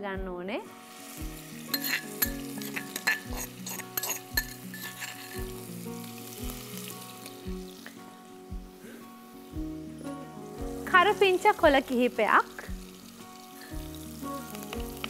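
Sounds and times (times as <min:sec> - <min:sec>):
background music with steady beat: 0:00.0 - 0:15.0
paste sizzling in hot oil: 0:00.6 - 0:15.0.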